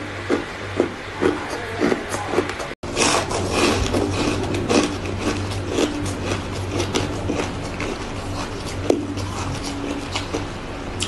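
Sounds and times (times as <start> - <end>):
steady low hum: 0.0 - 11.0
crunching and chewing ice: 0.3 - 10.5.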